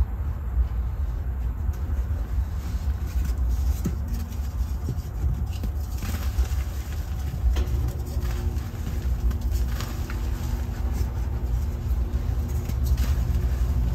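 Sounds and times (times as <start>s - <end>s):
low background rumble: 0.0s - 13.9s
chalk crunching: 2.0s - 13.9s.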